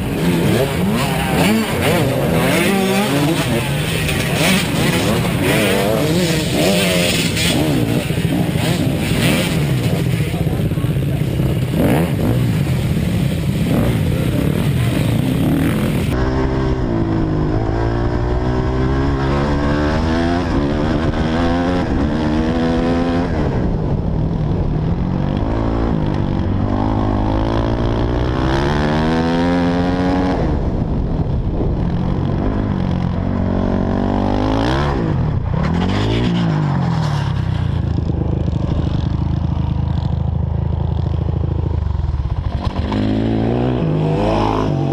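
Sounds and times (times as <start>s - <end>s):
dirt bike engine accelerating: 0.0s - 44.9s.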